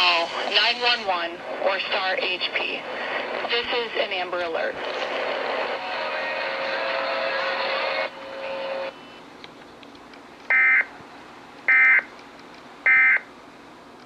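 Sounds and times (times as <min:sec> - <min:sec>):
broadcast hiss: 0:00.0 - 0:13.9.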